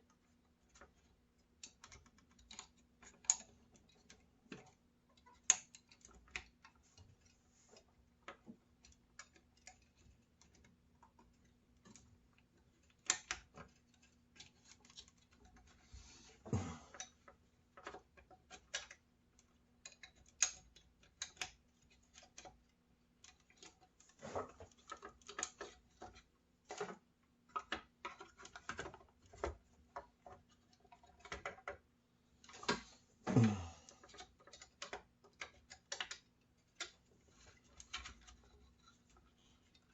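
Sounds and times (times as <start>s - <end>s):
plastic parts clicking and rustling: 0.0s - 39.9s.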